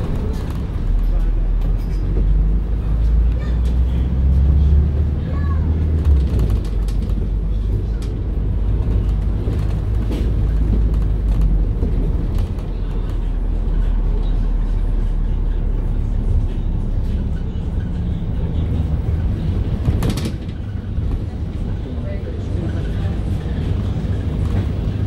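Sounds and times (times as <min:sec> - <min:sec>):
bus drivetrain droning: 0:00.0 - 0:25.0.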